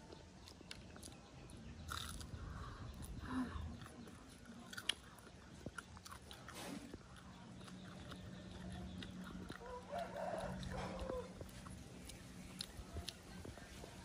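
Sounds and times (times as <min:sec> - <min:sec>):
person chewing crispy food: 0:00.0 - 0:14.0.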